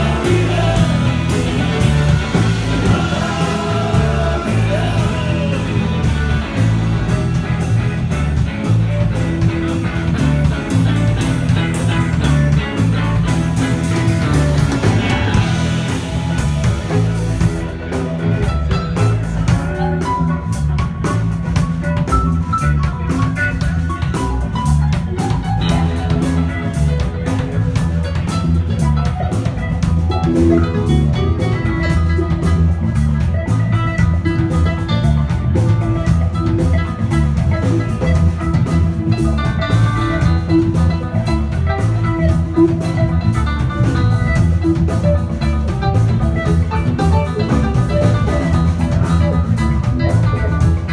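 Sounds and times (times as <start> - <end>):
drum kit beat: 0.0 - 50.9
rock guitar: 0.0 - 50.9.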